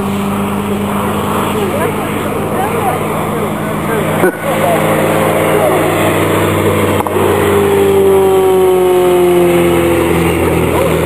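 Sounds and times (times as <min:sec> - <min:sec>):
light aircraft engines flying past: 0:00.0 - 0:11.0.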